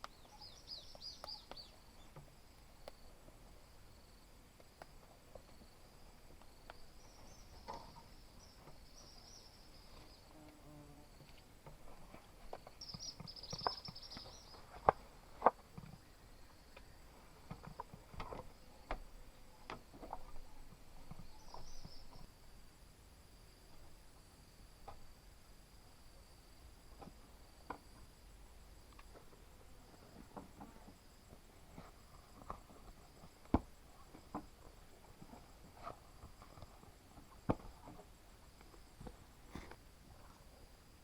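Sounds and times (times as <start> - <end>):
high insect chorus: 0.0 - 41.0.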